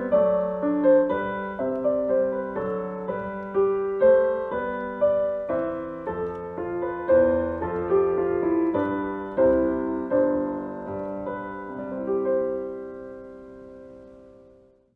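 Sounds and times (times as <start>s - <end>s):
piano chords: 0.0s - 14.9s.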